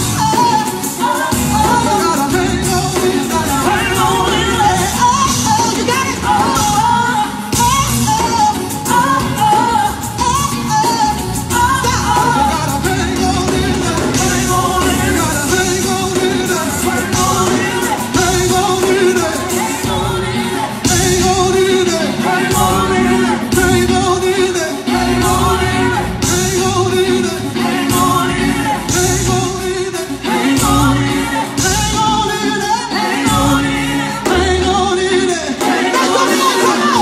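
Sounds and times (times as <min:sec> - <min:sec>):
live band with singers: 0:00.0 - 0:37.0.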